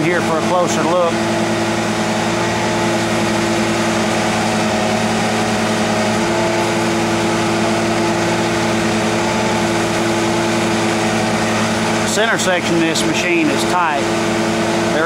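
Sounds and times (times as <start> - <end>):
diesel engine running: 0.0 - 15.0
hydraulics: 0.0 - 15.0.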